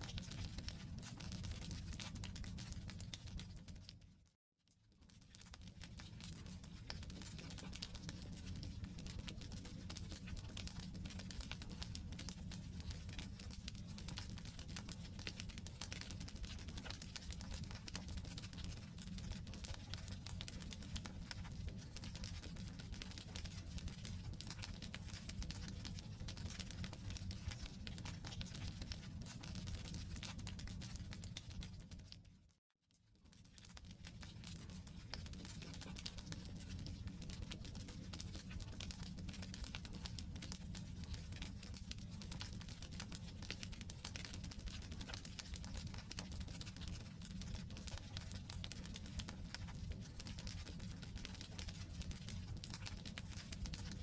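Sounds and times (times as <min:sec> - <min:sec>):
low noise of fire: 0:05.3 - 0:31.8, 0:33.6 - 0:54.0.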